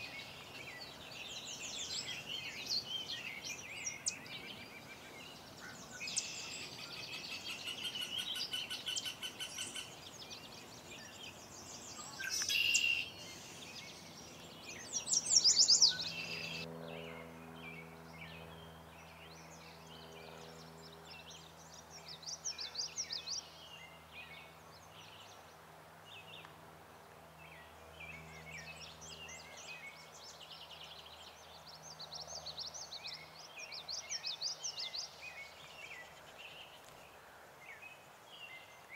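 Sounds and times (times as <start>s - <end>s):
faint steady hum: 0.0s - 38.9s
small birds chirping: 0.0s - 38.9s.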